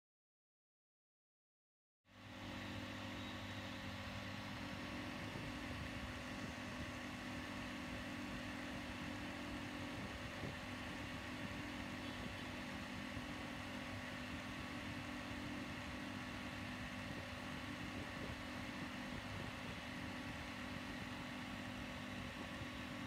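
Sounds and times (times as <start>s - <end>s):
steady mechanical hum: 2.1s - 23.0s.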